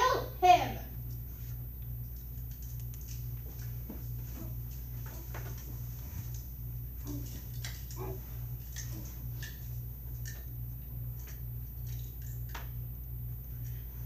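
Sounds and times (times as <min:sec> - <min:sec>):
low pulsing hum: 0:00.0 - 0:14.0.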